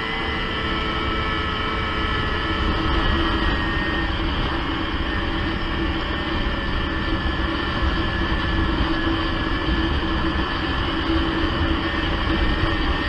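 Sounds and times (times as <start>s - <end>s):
muffled snowmobile engine drone: 0.0s - 13.0s
track and wind noise: 0.0s - 13.0s.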